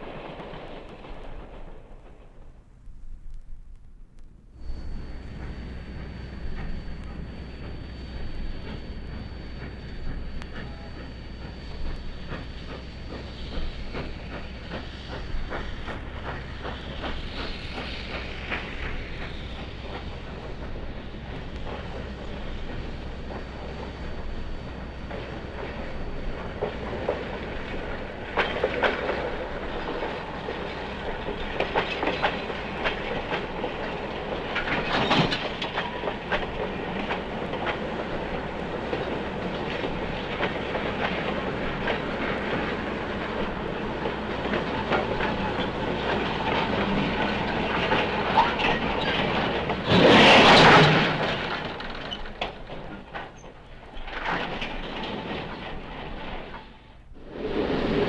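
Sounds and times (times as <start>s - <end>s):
low train rumble: 0.0s - 58.0s
train clattering: 0.0s - 58.0s
train wheels clicking over rail joints: 0.0s - 58.0s.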